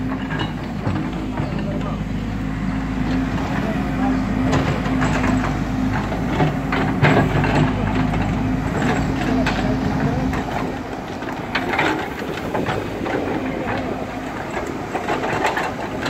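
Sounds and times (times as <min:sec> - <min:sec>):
metallic clanks and knocks: 0:00.0 - 0:02.0, 0:04.4 - 0:16.0
diesel engine humming: 0:00.0 - 0:16.0.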